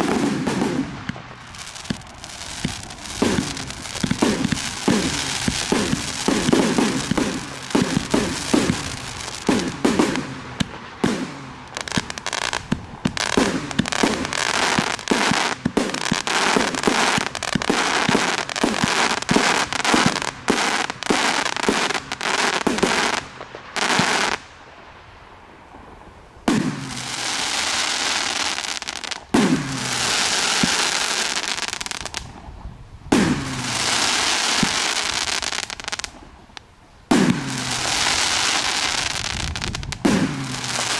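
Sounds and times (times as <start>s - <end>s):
firework shots and bursts: 0.0s - 24.4s, 26.5s - 32.3s, 33.1s - 36.2s, 37.1s - 40.9s
crackling firework stars: 0.0s - 40.9s.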